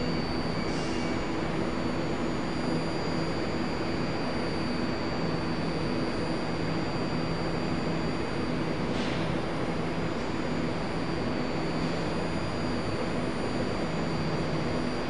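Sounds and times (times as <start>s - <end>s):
faint high whine: 0.0s - 15.0s
low electrical hum: 0.0s - 15.0s.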